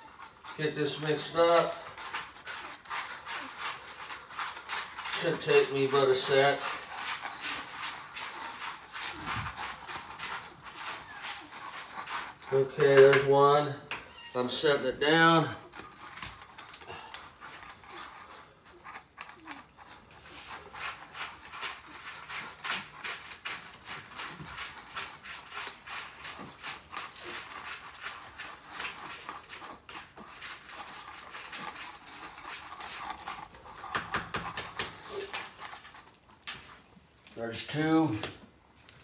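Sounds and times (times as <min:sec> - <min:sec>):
cats chewing wet food: 0:00.0 - 0:39.0.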